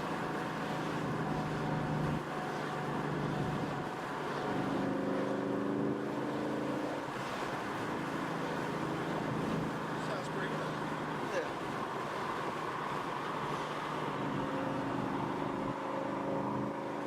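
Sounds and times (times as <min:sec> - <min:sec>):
car engine driving: 0:00.0 - 0:17.0.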